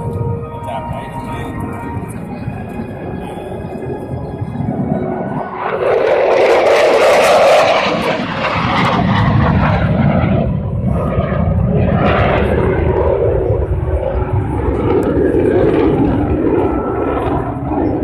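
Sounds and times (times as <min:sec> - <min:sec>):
fighter jets flying past: 0:00.0 - 0:18.0.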